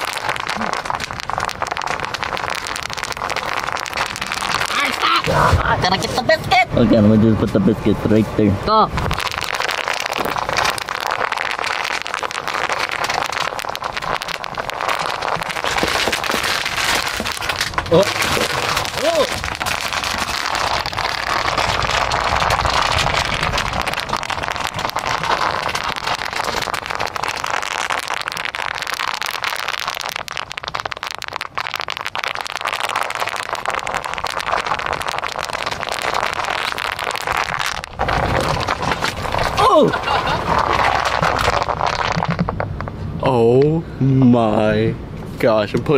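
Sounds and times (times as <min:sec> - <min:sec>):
bubble wrap popping under tire: 0:00.0 - 0:43.5.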